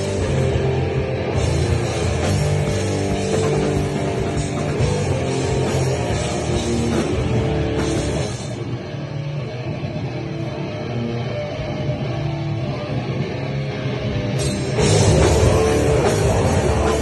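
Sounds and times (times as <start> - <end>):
drum kit: 0.0 - 10.2, 11.4 - 17.0
bass guitar: 0.0 - 17.0
distorted electric guitars: 0.0 - 17.0.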